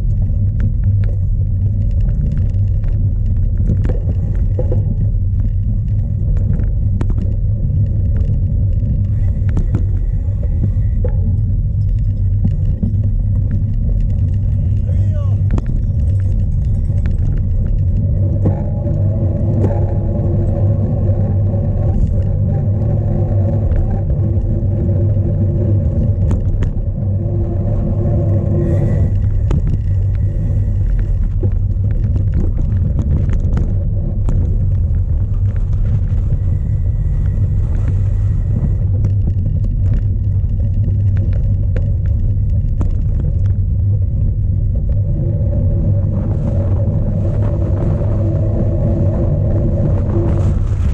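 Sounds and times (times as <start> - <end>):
bike clicks and rattles: 0.0 - 50.9
wind buffeting microphone: 0.0 - 50.9.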